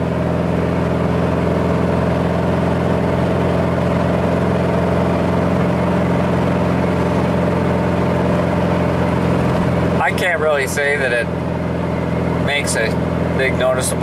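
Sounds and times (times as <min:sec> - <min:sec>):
deep engine exhaust purring: 0:00.0 - 0:14.0.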